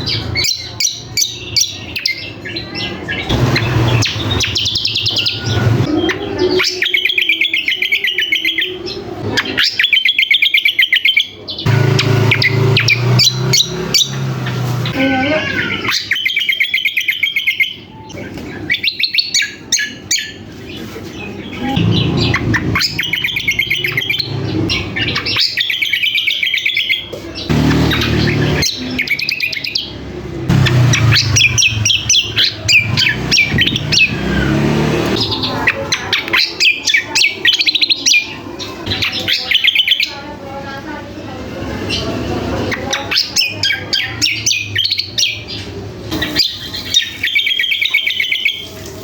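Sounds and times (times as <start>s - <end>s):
songbird trilling song: 0.0s - 20.4s, 21.4s - 40.2s, 42.7s - 48.7s.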